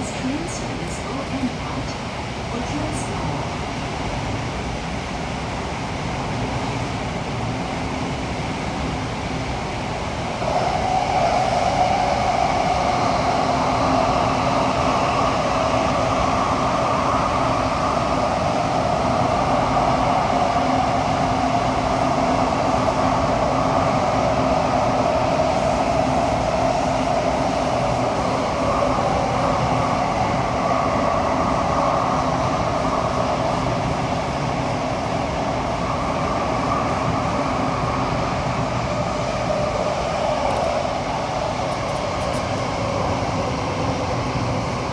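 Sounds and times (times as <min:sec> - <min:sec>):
train rumbling through tunnel: 0:00.0 - 0:44.9.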